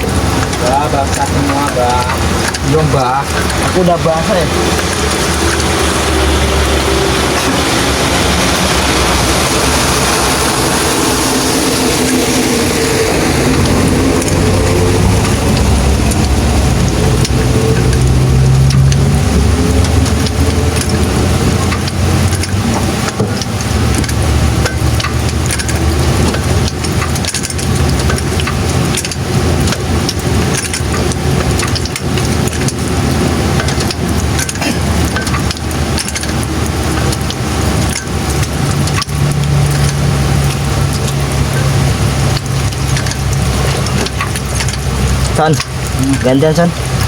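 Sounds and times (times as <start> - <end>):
rain falling: 0.0 - 47.0
vehicle engine running: 0.0 - 47.0.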